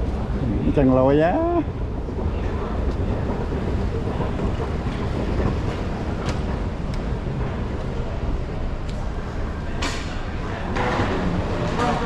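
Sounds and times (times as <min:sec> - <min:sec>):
rail car rumbling: 0:00.0 - 0:12.0.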